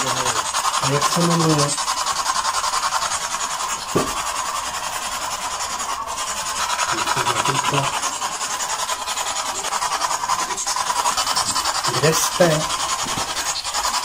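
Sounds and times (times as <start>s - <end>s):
pulsing radio static: 0.0s - 14.0s.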